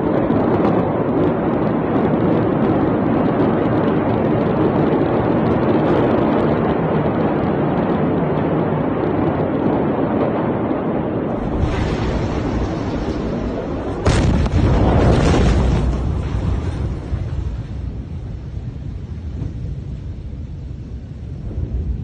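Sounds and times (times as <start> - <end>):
loud steady rushing noise: 0.0 - 22.0.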